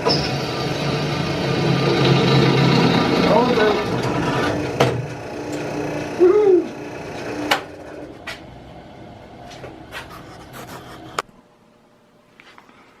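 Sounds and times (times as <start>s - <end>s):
steady hum: 0.8s - 13.0s.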